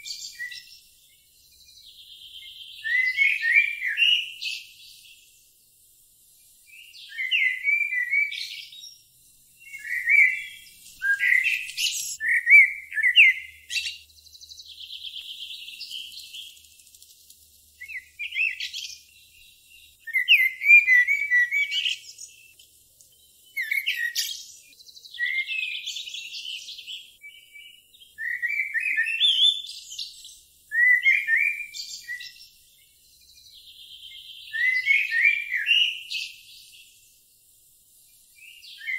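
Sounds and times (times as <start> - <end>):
songbirds chirping with trills: 0.0 - 38.9.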